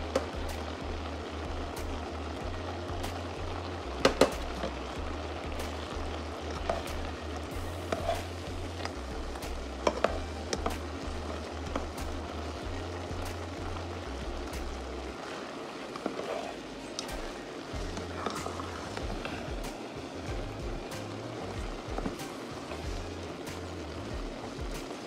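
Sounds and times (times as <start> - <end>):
rice bubbling in water: 0.0 - 25.0.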